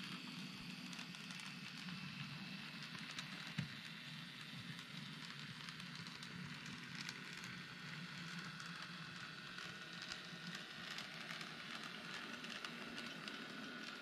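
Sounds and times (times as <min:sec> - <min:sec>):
model train crackling on track: 0:00.0 - 0:14.0.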